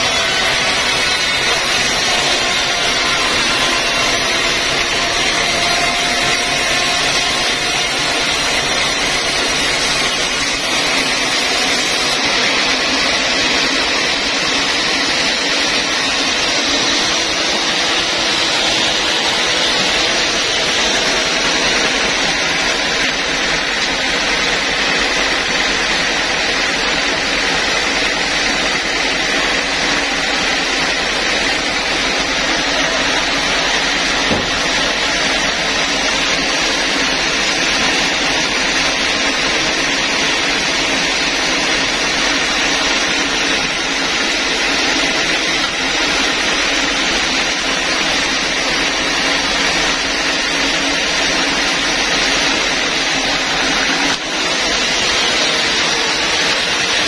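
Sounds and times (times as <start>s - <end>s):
band sawmill running: 0.0s - 57.0s.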